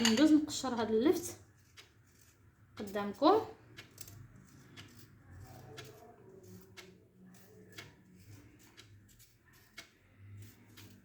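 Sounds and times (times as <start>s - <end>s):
knife peeling turnip: 1.1s - 11.0s.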